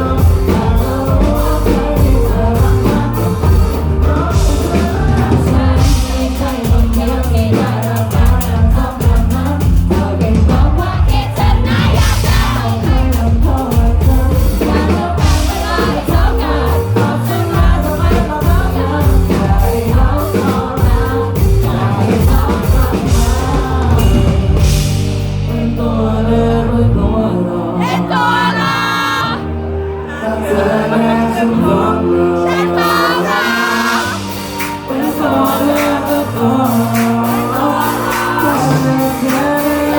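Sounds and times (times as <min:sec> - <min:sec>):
loud drums: 0:00.0 - 0:26.1, 0:32.5 - 0:39.9
bass: 0:00.0 - 0:39.9
lead singer singing: 0:00.0 - 0:39.9
live band playing: 0:00.0 - 0:39.9.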